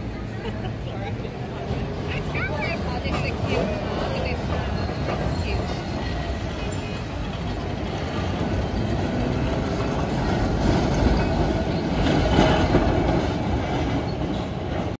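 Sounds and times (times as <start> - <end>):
tram wheels rumbling and clattering: 0.0 - 15.0.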